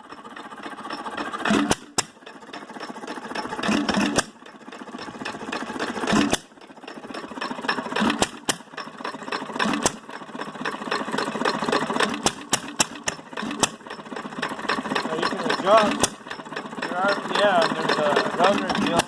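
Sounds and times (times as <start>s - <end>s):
fast mechanical clatter: 0.0s - 19.0s.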